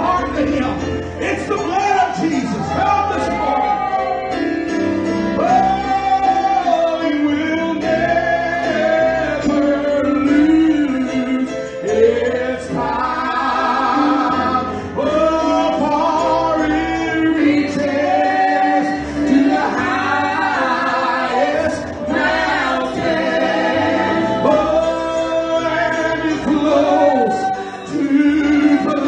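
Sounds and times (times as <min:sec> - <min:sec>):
gospel choir singing: 0:00.0 - 0:29.0
keyboard and bass accompaniment: 0:00.0 - 0:29.0.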